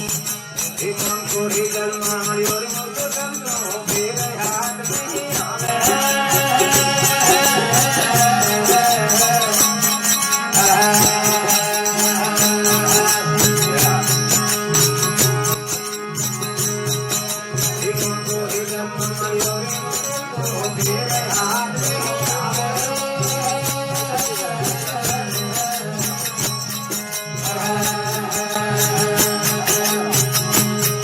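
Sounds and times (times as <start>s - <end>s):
jingling metal percussion: 0.0s - 31.0s
wavering melody: 0.0s - 31.0s.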